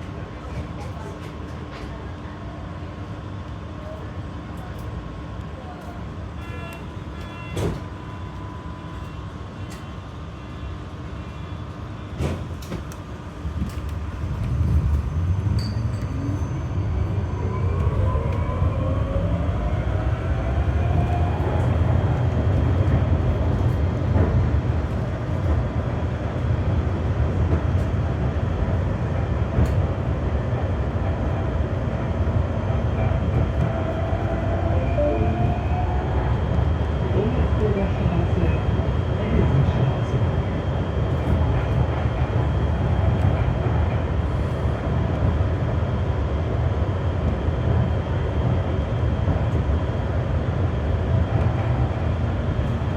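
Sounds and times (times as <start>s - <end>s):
tram running rumble: 0.0s - 52.9s.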